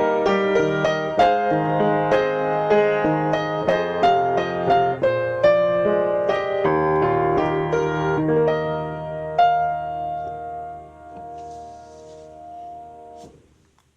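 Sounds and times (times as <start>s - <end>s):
piano playing: 0.0s - 13.3s.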